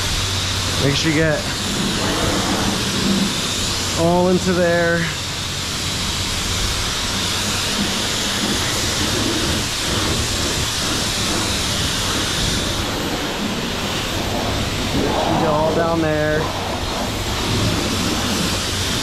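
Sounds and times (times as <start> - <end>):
pressure washer spraying water: 0.0 - 19.0.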